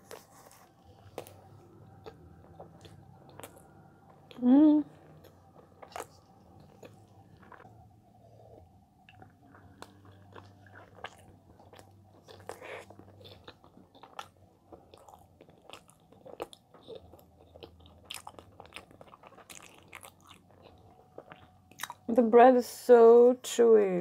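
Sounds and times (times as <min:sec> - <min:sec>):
chewing with mouth clicks: 0:01.0 - 0:04.4, 0:05.0 - 0:07.7, 0:08.3 - 0:22.0.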